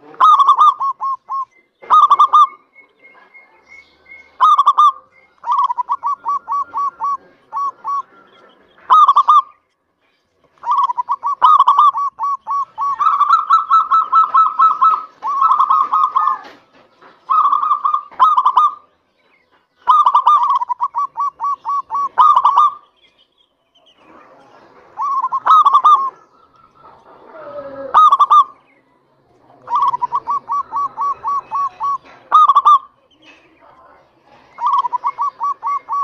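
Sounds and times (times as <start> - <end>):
dove cooing: 0.0 - 9.6, 10.5 - 19.0, 19.8 - 23.0, 23.8 - 28.8, 29.4 - 36.0.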